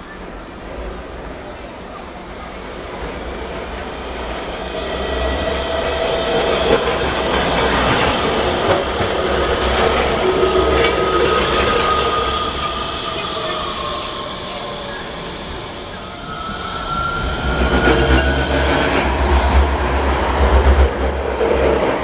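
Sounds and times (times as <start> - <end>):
tram running noise: 0.0 - 22.0.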